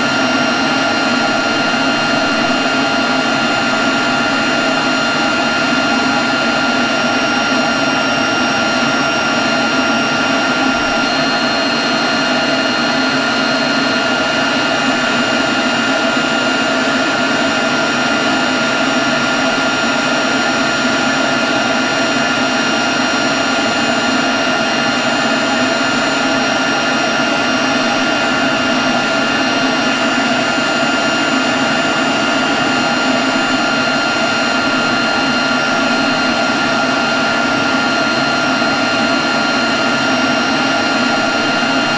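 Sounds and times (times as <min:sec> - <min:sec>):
leaf blower running: 0:00.0 - 0:41.9.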